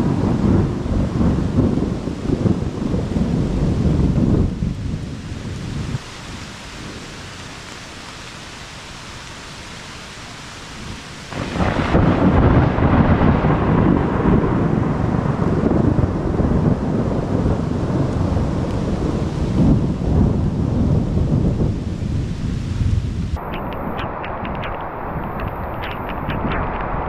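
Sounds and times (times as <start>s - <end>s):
thunder rolling: 0.0s - 6.0s, 11.3s - 27.0s
rain hissing: 0.0s - 27.0s.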